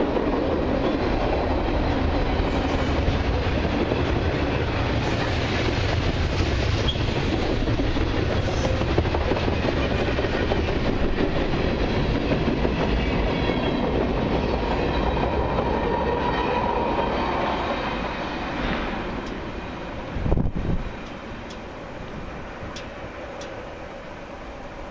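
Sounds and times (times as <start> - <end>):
freight train rumbling past: 0.0 - 24.9.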